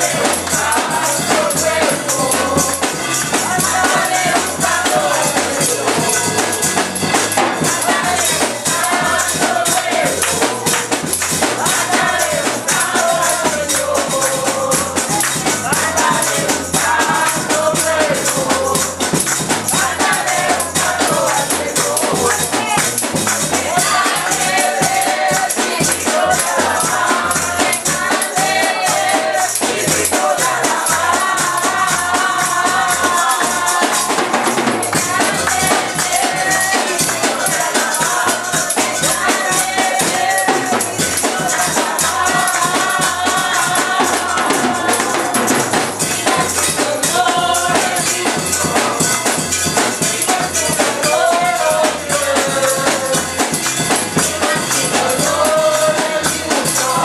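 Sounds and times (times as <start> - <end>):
bass line: 0.0 - 57.0
shaken hand percussion rattle: 0.0 - 57.0
singing: 0.0 - 57.0
worship band playing: 0.0 - 57.0.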